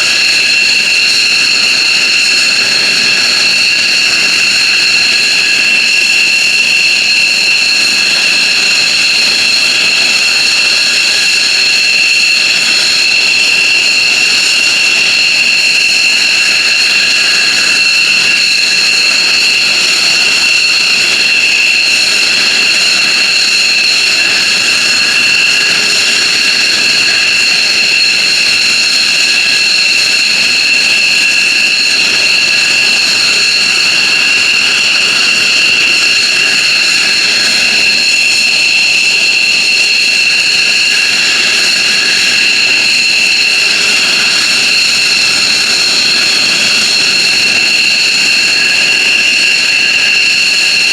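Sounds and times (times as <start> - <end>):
jet engines whining: 0.0 - 50.9.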